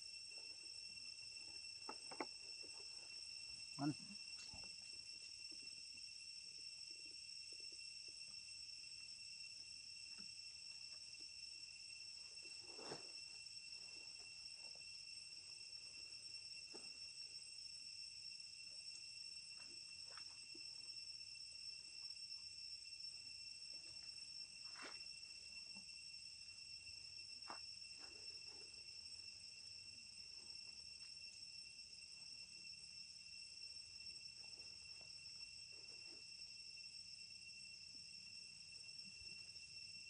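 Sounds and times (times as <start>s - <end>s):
high-pitched insect drone: 0.0s - 40.0s.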